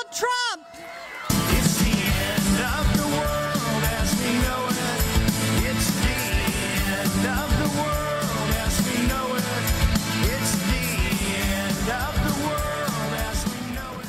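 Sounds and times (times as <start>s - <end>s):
rock song over sound system: 1.2s - 14.0s.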